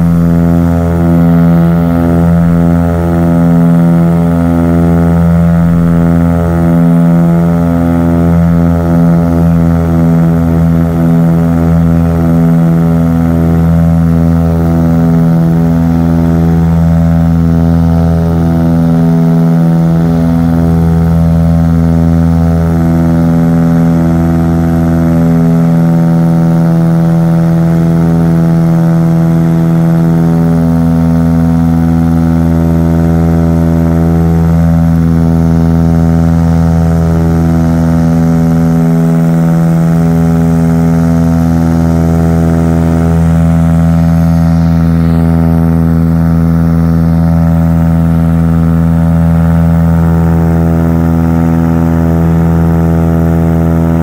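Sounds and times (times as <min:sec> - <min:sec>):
propeller plane cabin drone: 0:00.0 - 0:54.0.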